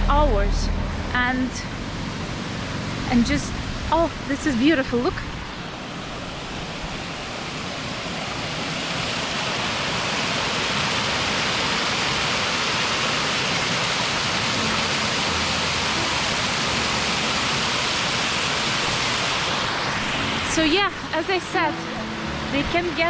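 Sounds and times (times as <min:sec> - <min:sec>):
river rushing over rocks: 0:01.9 - 0:23.0.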